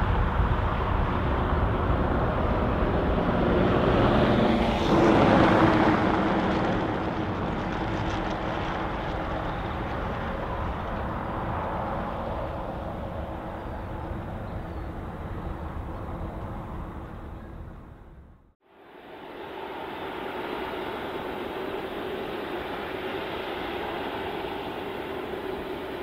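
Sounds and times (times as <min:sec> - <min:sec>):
jet airliner engines roaring: 0:00.0 - 0:26.0.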